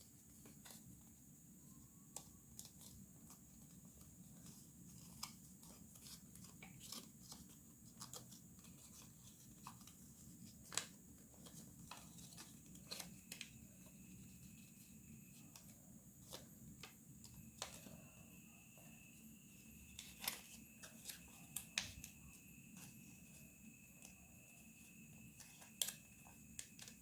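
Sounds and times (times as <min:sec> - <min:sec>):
paper rustling and creasing: 0:02.2 - 0:18.1, 0:19.5 - 0:27.0.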